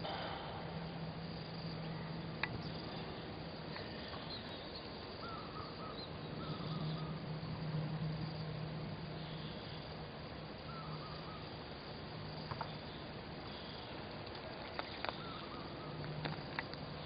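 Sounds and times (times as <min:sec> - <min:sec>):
faint insect or bird chirps: 0:00.0 - 0:17.0.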